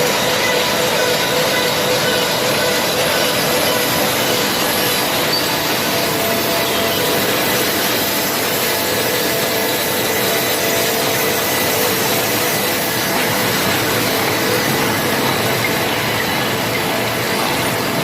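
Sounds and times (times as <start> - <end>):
power saw cutting wood: 0.0 - 18.0
sawmill machinery running: 0.0 - 18.0.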